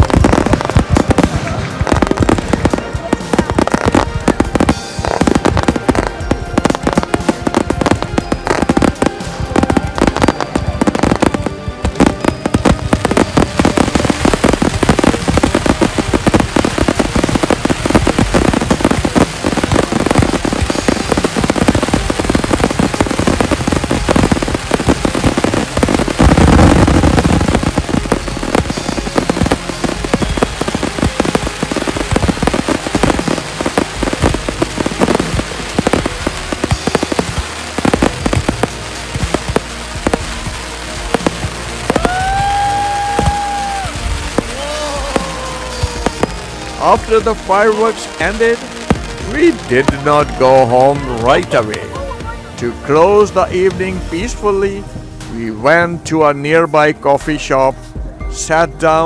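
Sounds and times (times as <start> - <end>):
loud firework burst: 0.0 - 54.2
fireworks crackling and popping: 0.0 - 55.8.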